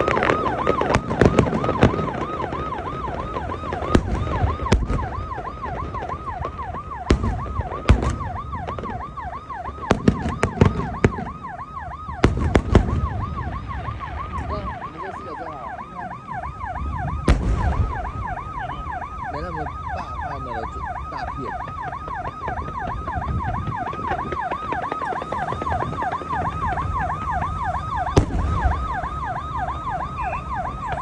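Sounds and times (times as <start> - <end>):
electronic siren yelping: 0.0 - 31.0
fireworks bursting: 0.0 - 31.0.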